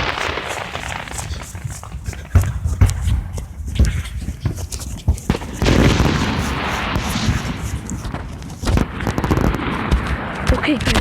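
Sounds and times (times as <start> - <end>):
firework bangs: 0.0 - 4.0, 5.3 - 11.0
fireworks rushing noise: 0.0 - 11.0.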